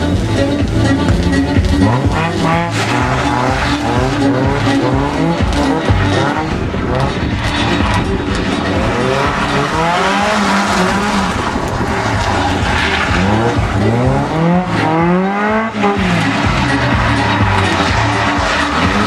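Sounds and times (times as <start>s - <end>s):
sports car engine revving: 0.0s - 19.0s.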